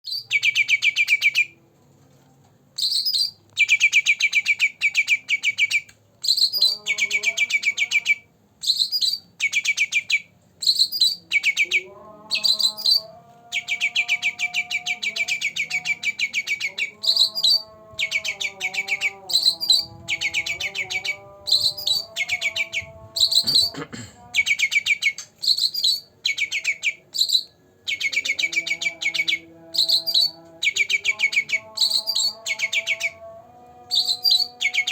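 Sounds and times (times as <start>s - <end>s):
whistled bird notes: 2.8s - 23.8s, 24.4s - 33.2s, 33.9s - 34.9s
songbird buzzy trills: 2.8s - 34.9s.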